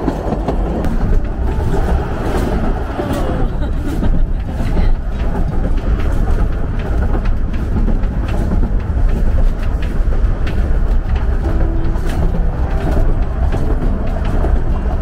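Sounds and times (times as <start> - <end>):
train carriage rumble: 0.0 - 15.0
running gear clicks: 0.4 - 15.0.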